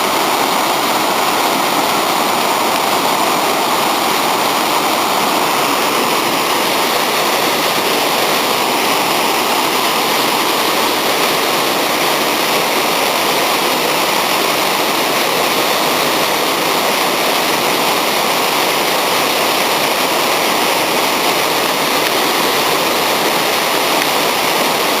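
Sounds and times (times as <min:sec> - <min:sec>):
waterfall pouring: 0:00.0 - 0:25.0.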